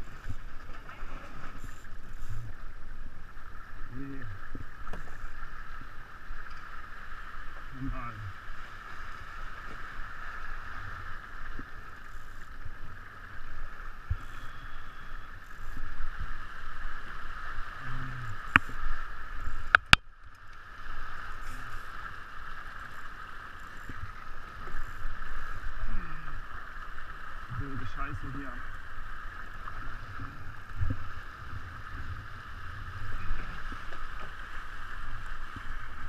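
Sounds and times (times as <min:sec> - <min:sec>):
water rushing: 0:00.0 - 0:36.0
wind: 0:00.0 - 0:36.0.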